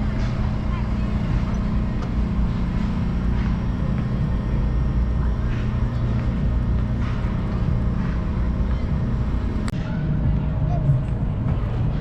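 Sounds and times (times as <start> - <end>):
ride vehicle engine rumble: 0.0 - 12.0.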